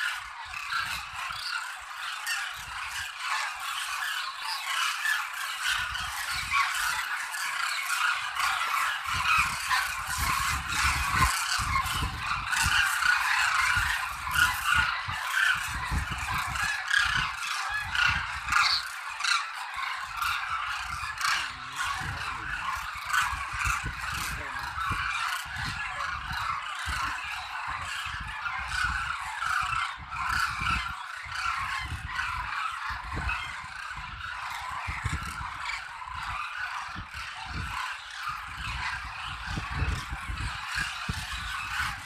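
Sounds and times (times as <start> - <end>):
cranes calling: 0.0 - 42.0
wind buffeting microphone: 5.6 - 7.1, 8.0 - 42.0.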